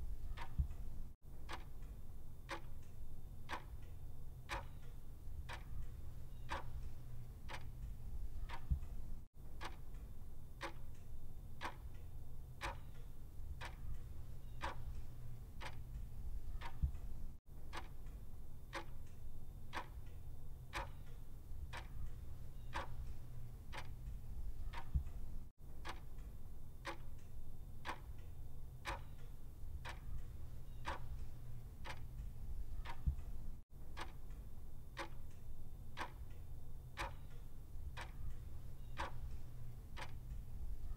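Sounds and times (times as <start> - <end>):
clock ticking: 0.2 - 12.0, 12.6 - 40.9.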